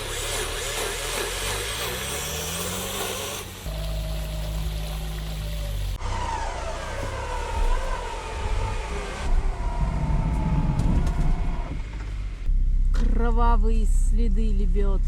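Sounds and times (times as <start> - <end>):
suv engine whine: 0.0 - 15.0
low engine rumble: 2.0 - 15.0.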